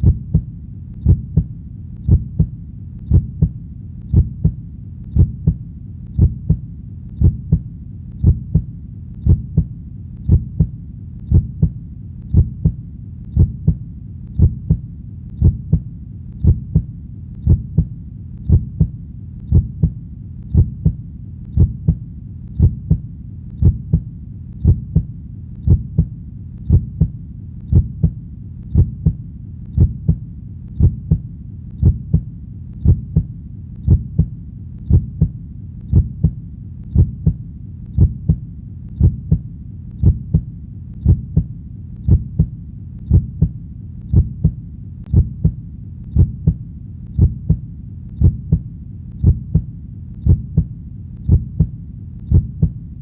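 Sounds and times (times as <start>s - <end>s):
heartbeat thumps: 0.0s - 53.0s.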